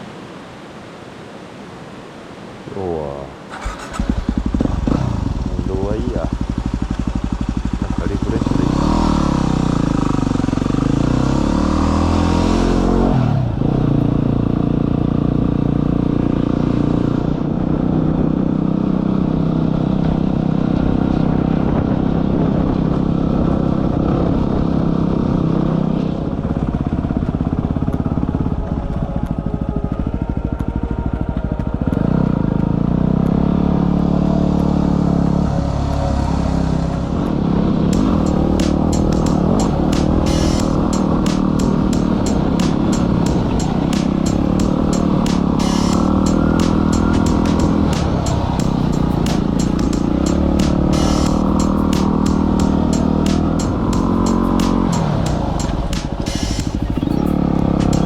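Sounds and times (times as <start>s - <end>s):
motorcycle engine revving: 3.5s - 58.0s.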